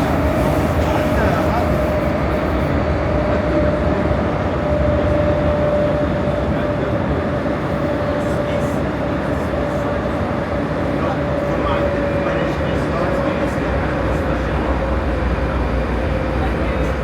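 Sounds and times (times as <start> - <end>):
metro train rumbling in tunnel: 0.0 - 17.0
train whine: 0.0 - 17.0.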